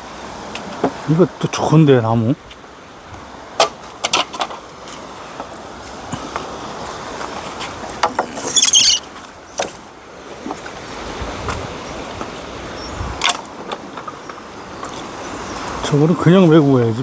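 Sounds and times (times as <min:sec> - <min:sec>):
crackling rustle of brush: 0:02.4 - 0:17.0.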